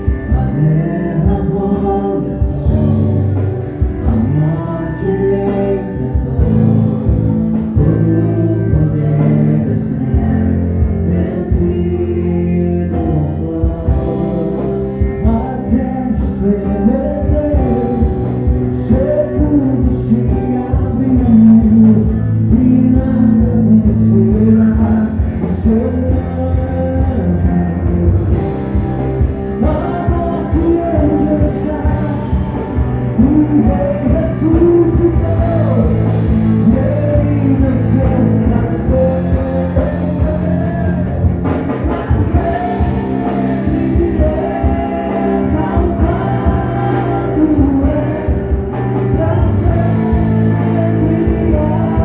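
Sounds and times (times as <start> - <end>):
person singing: 0.0 - 52.0
rock gospel band playing: 0.0 - 52.0.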